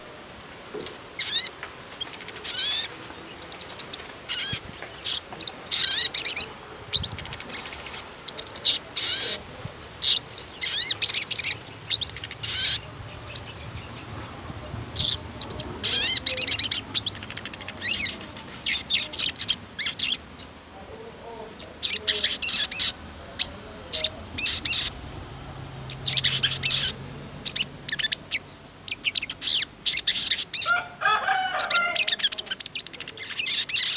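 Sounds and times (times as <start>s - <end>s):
tailorbird chirping song: 0.0s - 33.9s.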